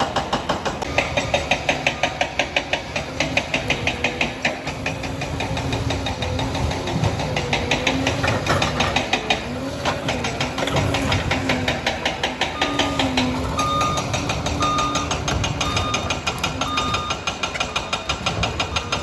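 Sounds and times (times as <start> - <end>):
bulldozer diesel engine running: 0.0 - 19.0
rapid metallic clatter: 0.0 - 19.0.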